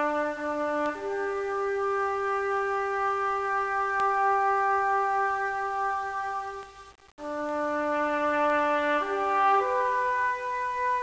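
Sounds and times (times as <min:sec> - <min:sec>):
background music held notes: 0:00.0 - 0:11.0.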